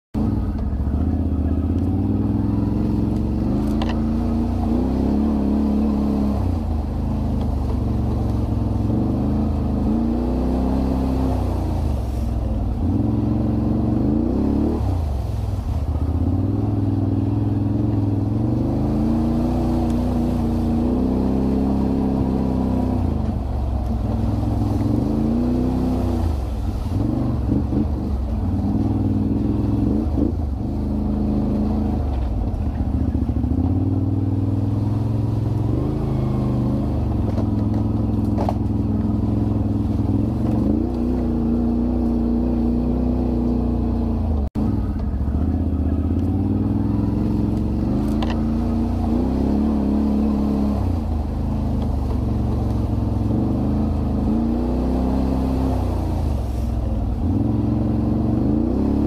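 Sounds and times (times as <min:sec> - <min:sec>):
atv engine revving: 0:00.2 - 0:59.0.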